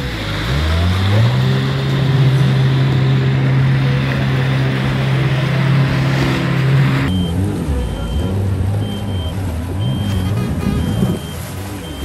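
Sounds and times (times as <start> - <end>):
jet ski engine running: 0.0 - 12.0
water spray and wind rushing: 0.0 - 12.0.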